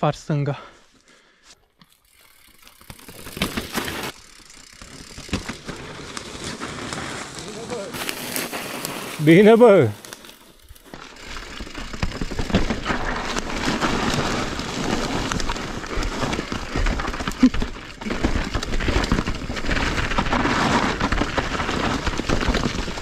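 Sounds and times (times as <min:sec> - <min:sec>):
bike tyres crackling through dry leaves: 0:01.8 - 0:23.0
bike rattling over bumps: 0:01.9 - 0:23.0.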